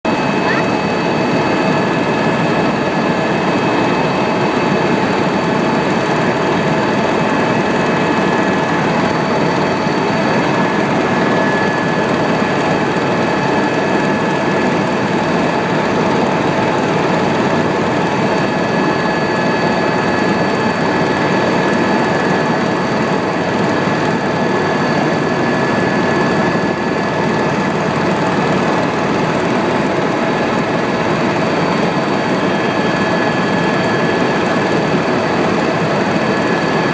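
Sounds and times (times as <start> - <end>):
helicopter engine and rotor: 0.0 - 36.9
high-pitched turbine whine: 0.0 - 36.9.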